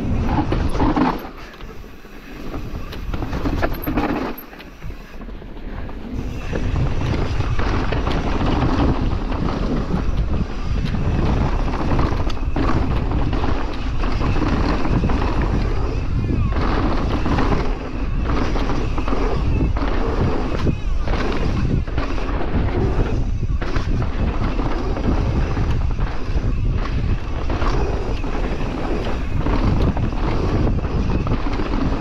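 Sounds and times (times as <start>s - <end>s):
bike rattling on rough ground: 0.0s - 32.0s
bike tyre noise: 0.0s - 32.0s
wind buffeting microphone: 0.0s - 32.0s.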